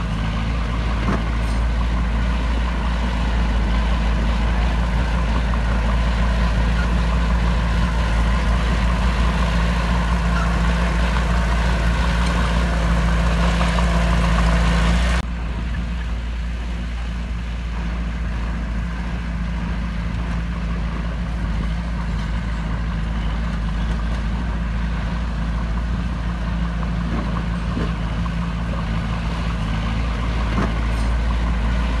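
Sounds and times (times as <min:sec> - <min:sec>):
diesel engine rumbling: 0:00.0 - 0:32.0.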